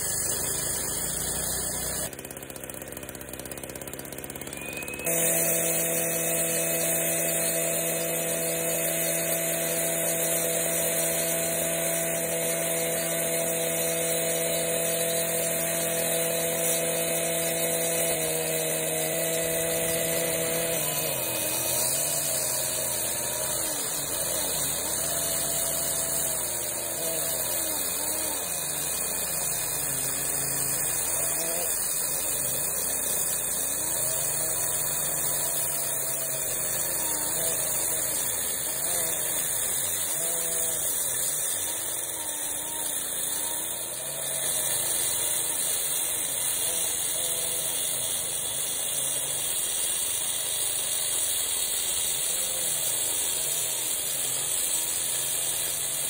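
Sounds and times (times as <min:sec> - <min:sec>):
cut-off saw grinding concrete: 0:00.0 - 0:56.0.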